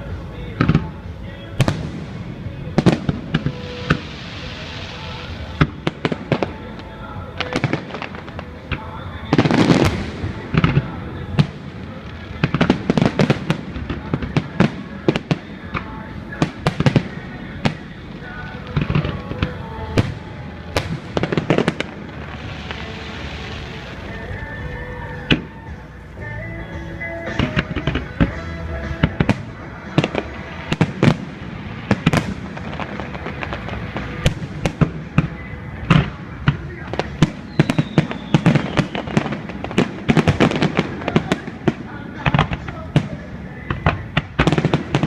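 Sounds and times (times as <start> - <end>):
fireworks bangs and cracks: 0.0 - 45.0
music playing: 0.0 - 45.0.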